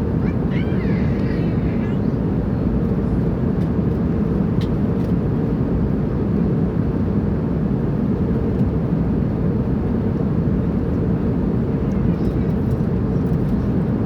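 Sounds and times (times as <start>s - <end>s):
airplane drone in flight: 0.0s - 14.0s.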